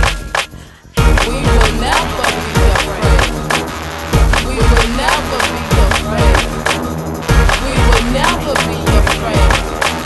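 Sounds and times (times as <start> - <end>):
pop music with heavy beat: 0.0 - 10.0.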